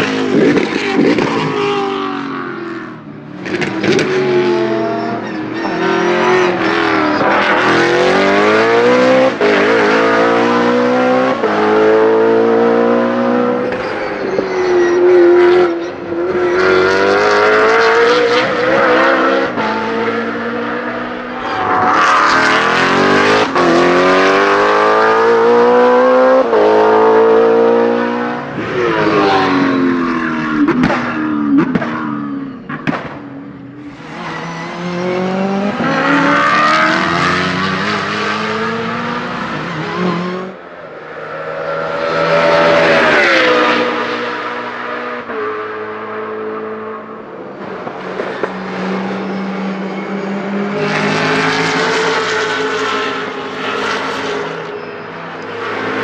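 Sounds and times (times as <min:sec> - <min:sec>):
race car engine at full throttle: 0:00.0 - 0:56.0.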